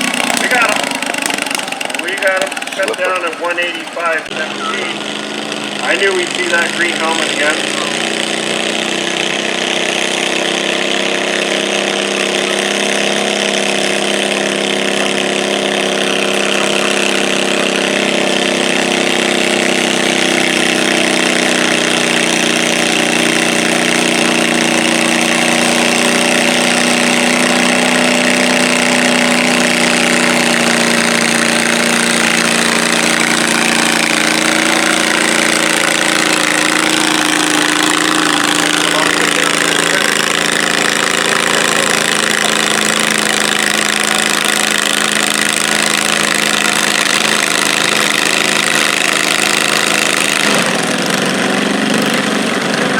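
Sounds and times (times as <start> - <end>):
tractor engine running steadily: 0.0 - 52.9.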